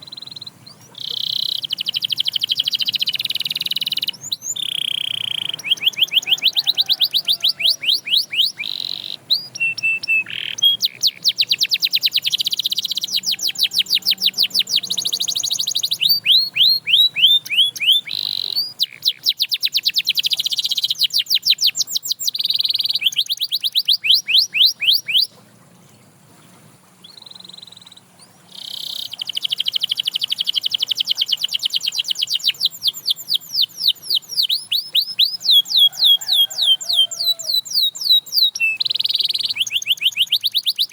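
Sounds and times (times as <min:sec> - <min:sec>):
canary singing: 0:00.0 - 0:25.4, 0:27.0 - 0:40.9.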